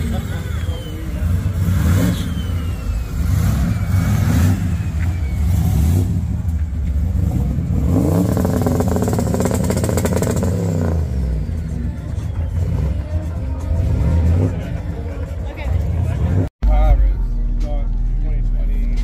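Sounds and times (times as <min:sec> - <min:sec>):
car engine revving: 0:00.0 - 0:16.5.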